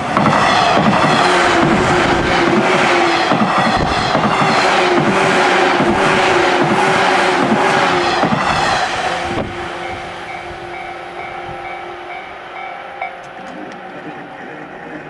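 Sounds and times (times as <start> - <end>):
train wheels clacking over rails: 0.0 - 15.0.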